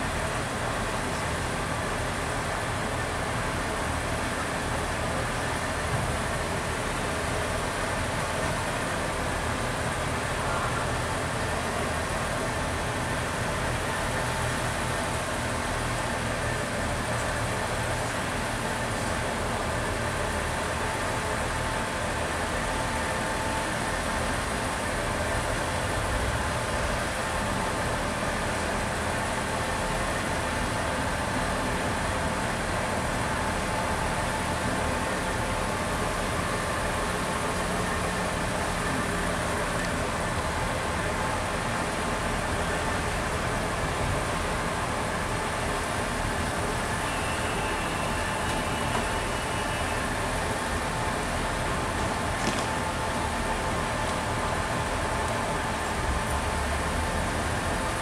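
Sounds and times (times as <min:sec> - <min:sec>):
train diesel engines idling: 0:00.0 - 0:58.0.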